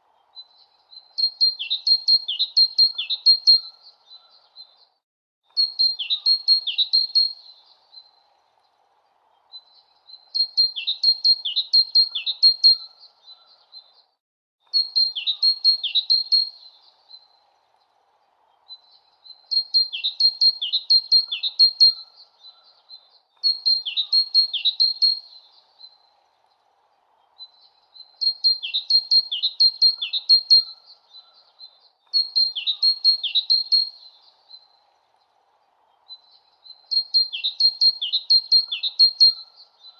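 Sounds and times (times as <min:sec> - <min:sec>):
faint steady background hiss: 0:00.0 - 0:39.9
bird singing high chirps: 0:00.3 - 0:04.9, 0:05.5 - 0:08.3, 0:09.5 - 0:14.0, 0:14.6 - 0:17.4, 0:18.7 - 0:26.2, 0:27.4 - 0:34.9, 0:36.0 - 0:39.9.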